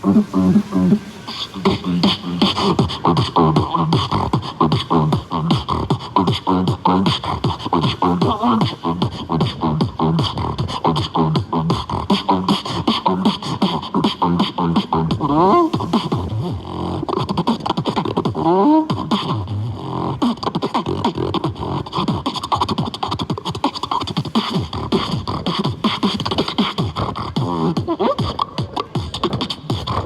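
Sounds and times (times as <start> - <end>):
person beatboxing: 0.0 - 30.0
wobbling vocal glide: 0.0 - 30.0.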